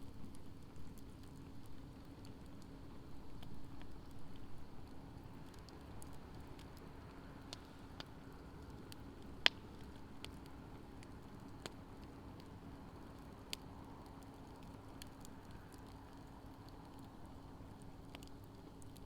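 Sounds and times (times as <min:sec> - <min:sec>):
campfire crackling and popping: 0:00.0 - 0:19.0
faint steady hum: 0:00.0 - 0:19.0.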